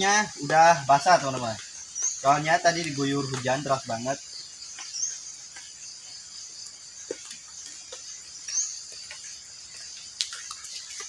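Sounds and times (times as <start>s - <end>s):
chorus of forest insects: 0.0s - 11.0s.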